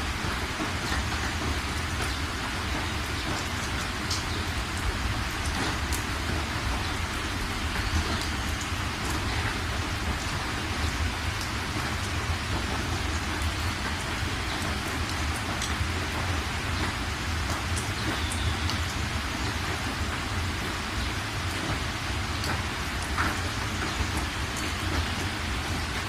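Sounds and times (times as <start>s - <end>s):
steady rain: 0.0s - 26.0s
water drips ticking: 0.1s - 26.0s.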